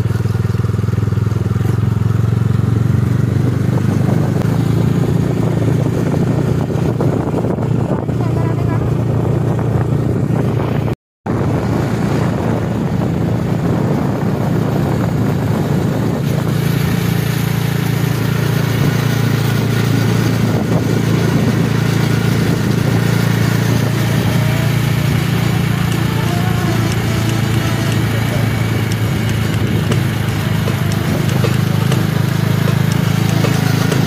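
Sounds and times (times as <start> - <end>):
motorcycle engine hum: 0.0 - 34.0
wind noise: 2.8 - 34.0.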